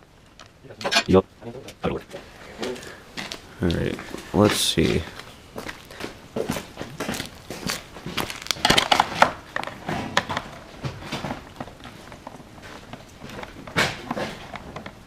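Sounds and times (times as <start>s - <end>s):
parts and tools rustling and clicking: 0.2s - 1.2s, 2.0s - 15.0s.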